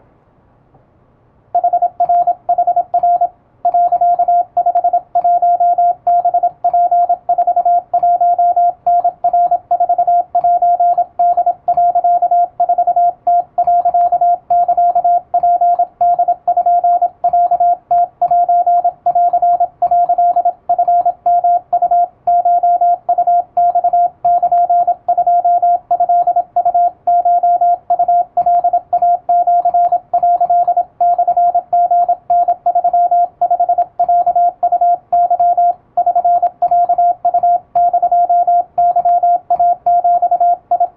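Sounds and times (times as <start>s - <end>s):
morse code beeps: 1.6s - 40.9s.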